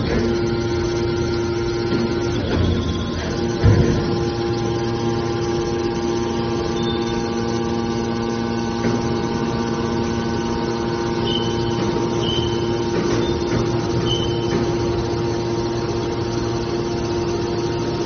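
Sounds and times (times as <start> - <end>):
baler motor and pump humming: 0.0 - 18.0.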